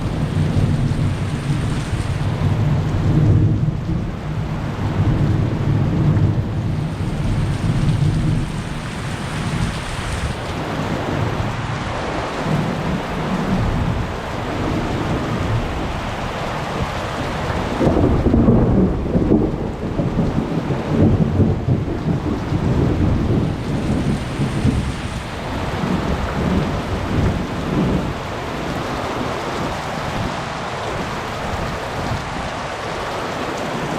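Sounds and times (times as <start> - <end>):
heavy rain falling: 0.0 - 33.9
thunder rumbling: 0.0 - 33.9.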